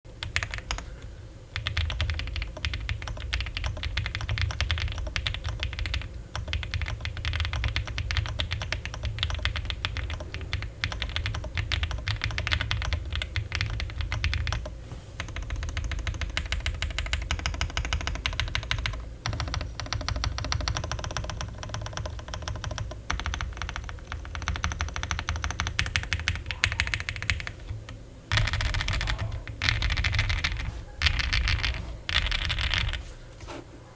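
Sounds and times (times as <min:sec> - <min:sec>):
fast mechanical keyboard typing: 0:00.2 - 0:00.9, 0:01.5 - 0:33.1.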